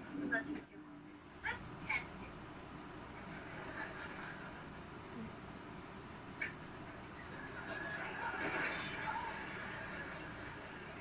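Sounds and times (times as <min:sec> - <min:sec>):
television sitcom soundtrack: 0:00.0 - 0:11.0.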